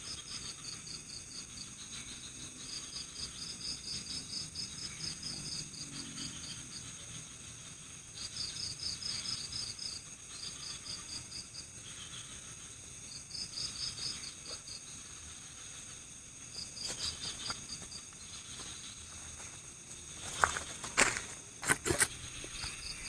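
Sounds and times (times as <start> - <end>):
crickets chirping: 0.0 - 23.0
high-pitched insect drone: 0.1 - 23.0.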